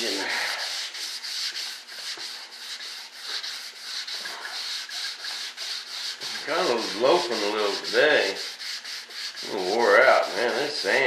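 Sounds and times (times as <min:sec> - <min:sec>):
sandpaper rubbing back and forth: 0:00.0 - 0:11.0.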